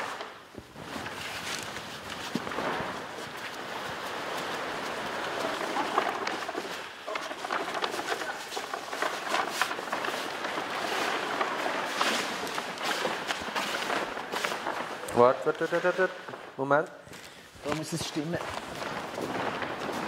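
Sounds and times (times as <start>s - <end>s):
footsteps on paper: 0.0s - 20.0s
paper sheet rustling and crinkling: 0.0s - 20.0s.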